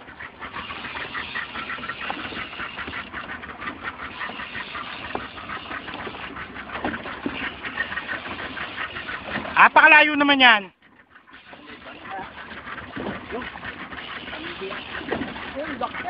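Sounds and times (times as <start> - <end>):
fishing reel clicking: 0.1 - 16.0.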